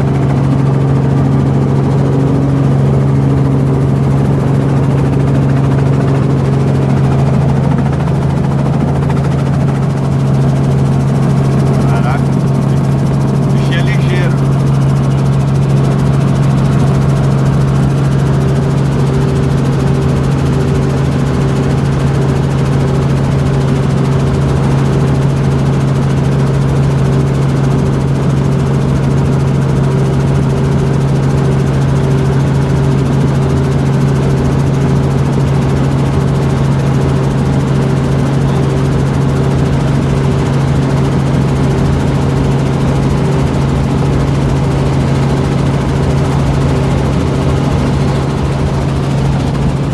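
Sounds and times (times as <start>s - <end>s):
helicopter low drone: 0.0s - 49.9s.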